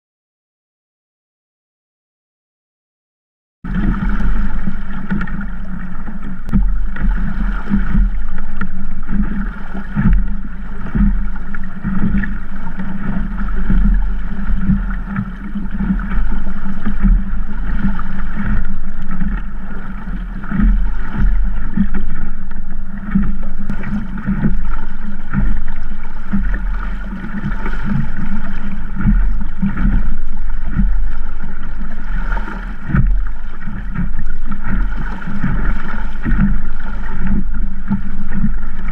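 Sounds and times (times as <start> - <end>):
water slapping against hull: 3.7 - 38.9.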